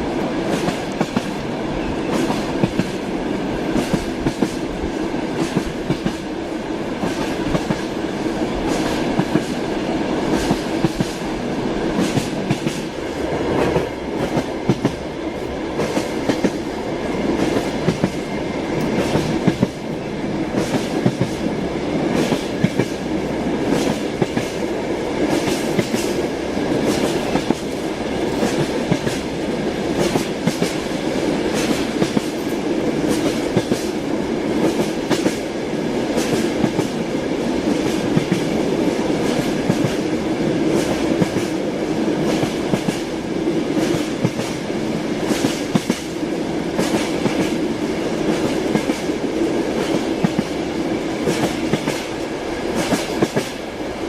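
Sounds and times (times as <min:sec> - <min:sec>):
train wheels clicking over rail joints: 0:00.0 - 0:41.6, 0:42.2 - 0:53.9.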